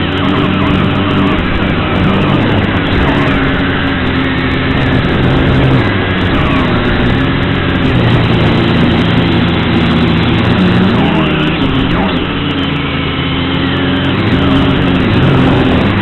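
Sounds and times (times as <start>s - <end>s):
constant rushing noise: 0.0s - 16.0s
quadcopter motors humming: 0.0s - 16.0s.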